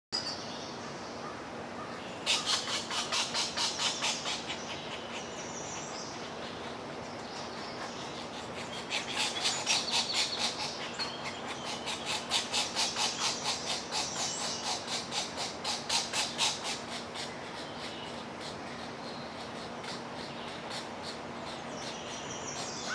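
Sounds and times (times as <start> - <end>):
woodpeckers calling harshly: 2.2 - 22.9.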